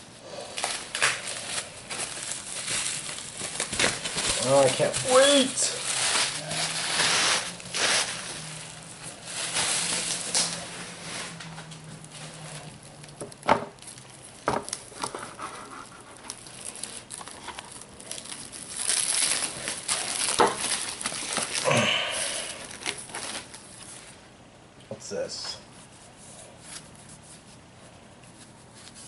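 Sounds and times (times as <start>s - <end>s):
bubble wrap crinkling: 0.4s - 24.3s.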